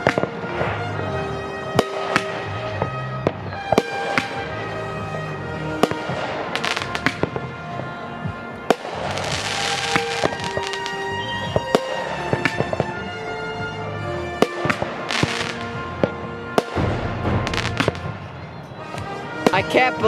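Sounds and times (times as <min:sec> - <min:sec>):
fireworks bangs: 0:00.0 - 0:13.7, 0:14.3 - 0:20.0
background music with held notes: 0:00.0 - 0:20.0
fireworks crackling: 0:00.0 - 0:20.0.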